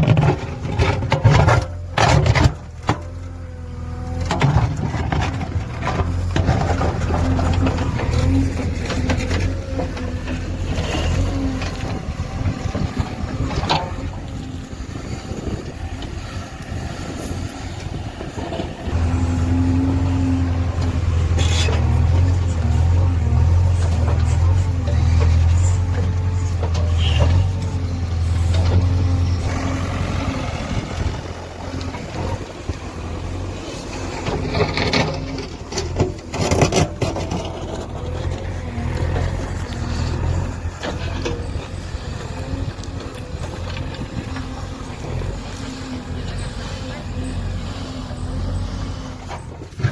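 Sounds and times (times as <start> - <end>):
clattering knocks and scraping: 0.0 - 3.4, 4.0 - 49.9
diesel engine running: 0.0 - 49.9.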